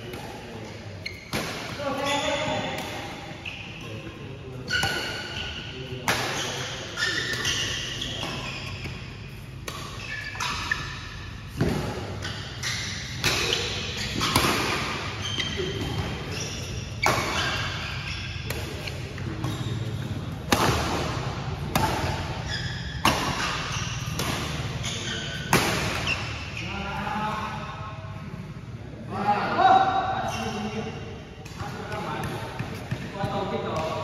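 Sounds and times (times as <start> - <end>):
shoes squeaking on court floor: 0.0 - 26.8, 30.3 - 34.0.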